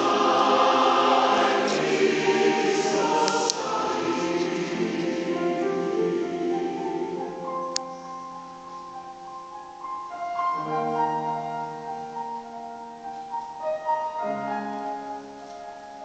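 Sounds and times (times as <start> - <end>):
piano playing held chords: 0.0 - 16.0.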